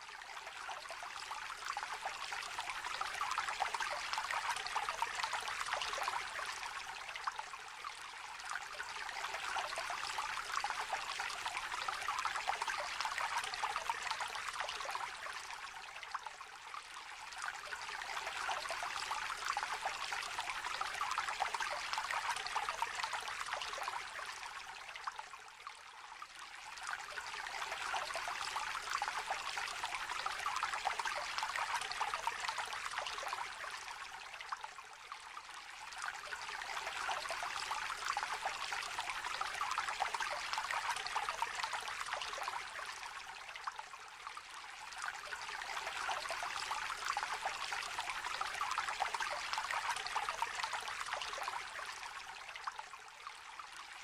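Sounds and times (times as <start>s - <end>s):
river trickling and babbling: 0.0s - 54.0s.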